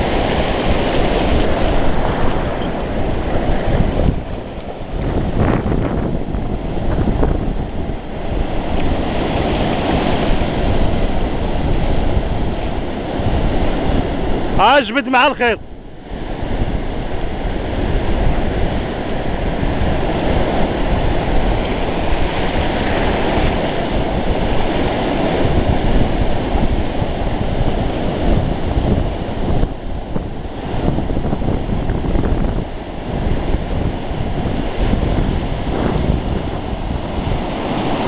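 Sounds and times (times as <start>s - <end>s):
sea surf washing on beach: 0.0s - 38.0s
wind buffeting microphone: 0.0s - 38.0s.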